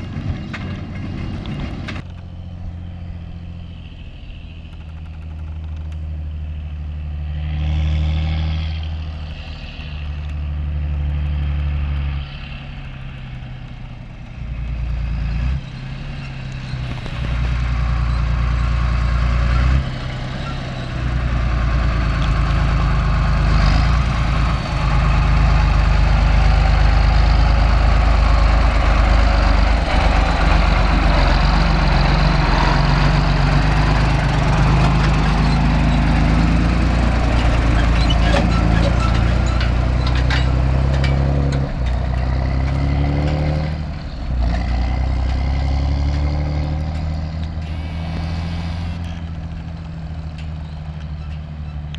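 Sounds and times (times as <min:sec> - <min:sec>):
tractor diesel engine running: 0:00.0 - 0:07.8, 0:08.6 - 0:51.9.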